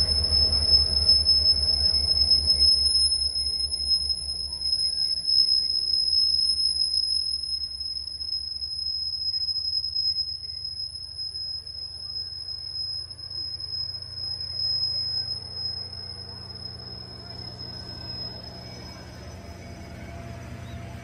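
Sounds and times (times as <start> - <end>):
train wheels rumbling on rails: 0.0 - 6.4, 10.4 - 21.0
steady high-pitched tone: 0.0 - 21.0.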